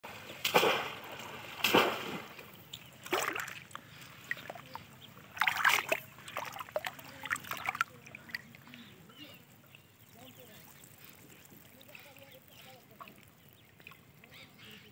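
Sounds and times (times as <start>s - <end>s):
pond water splashing: 0.0s - 14.9s.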